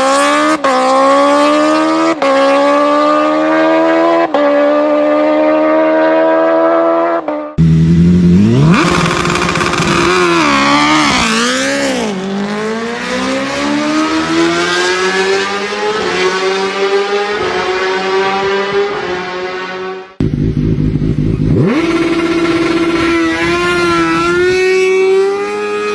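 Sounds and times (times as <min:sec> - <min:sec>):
motorcycle engine high revs: 0:00.0 - 0:25.9
motorcycle revving and accelerating: 0:00.0 - 0:25.9.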